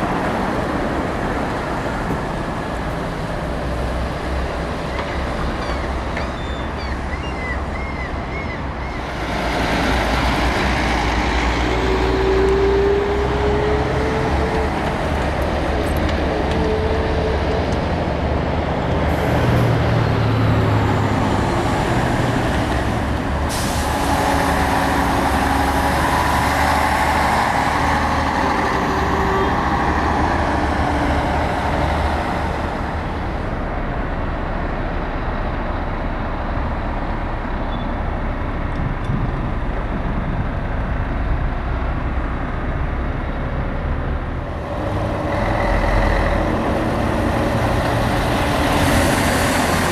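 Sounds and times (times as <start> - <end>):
diesel trucks driving past: 0.0 - 49.9.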